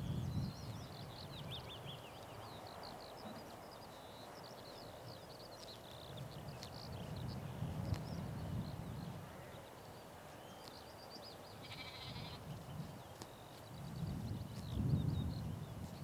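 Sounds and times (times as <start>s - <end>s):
wind rumbling on microphone: 0.0s - 2.6s, 3.2s - 9.6s, 11.5s - 16.0s
songbirds chirping: 0.0s - 16.0s.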